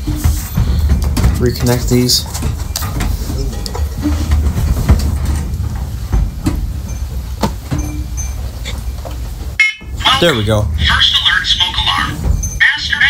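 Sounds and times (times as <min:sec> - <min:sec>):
low rubbing and rumble: 0:00.0 - 0:13.0.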